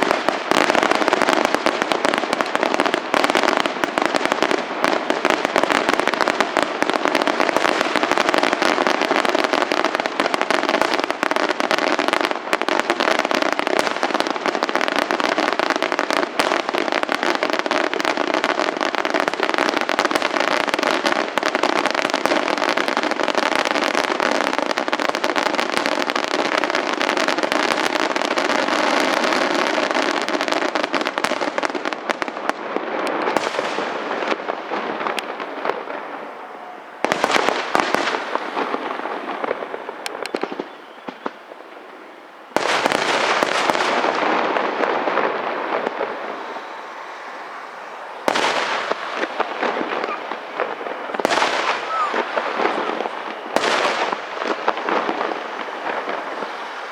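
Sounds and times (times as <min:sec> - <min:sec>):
firework bursts and crackling: 0:00.0 - 0:56.9.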